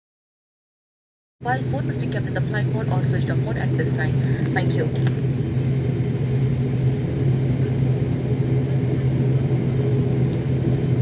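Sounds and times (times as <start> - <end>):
airliner engines droning in cabin: 1.4 - 11.0.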